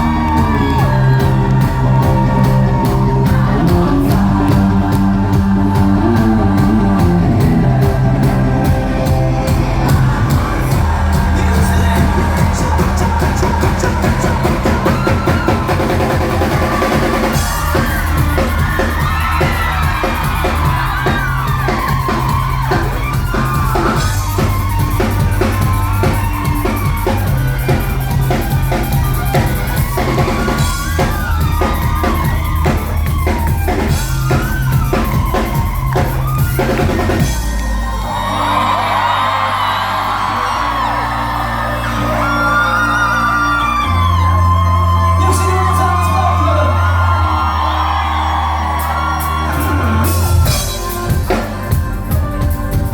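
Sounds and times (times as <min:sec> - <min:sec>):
crowd shouting: 0:00.0 - 0:52.9
live rock band playing: 0:00.0 - 0:52.9.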